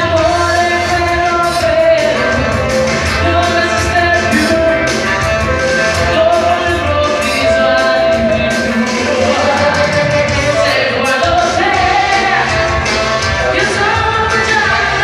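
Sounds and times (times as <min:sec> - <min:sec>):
woman singing: 0:00.0 - 0:05.1, 0:06.0 - 0:12.8, 0:13.4 - 0:15.0
live pop band playing: 0:00.0 - 0:15.0.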